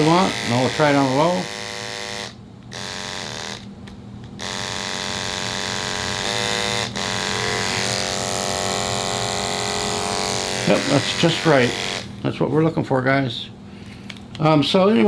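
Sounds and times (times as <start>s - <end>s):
electric pet clipper buzzing: 0.0s - 12.2s.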